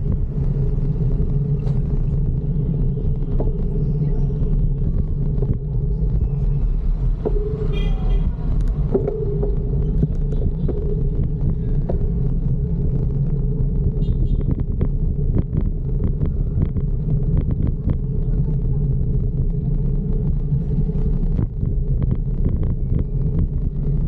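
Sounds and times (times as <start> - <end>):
bicycle riding rumble: 0.0 - 24.0
wind on microphone: 0.0 - 24.0.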